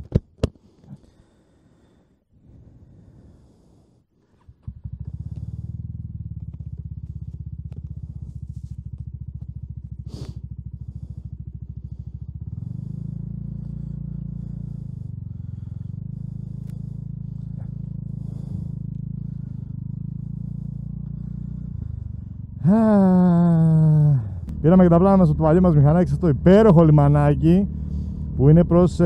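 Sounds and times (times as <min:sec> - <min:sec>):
scooter engine idling and riding: 0:02.7 - 0:29.0.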